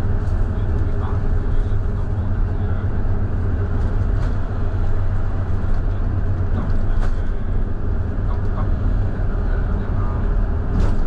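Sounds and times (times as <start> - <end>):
coach diesel engine drone: 0.0 - 11.0.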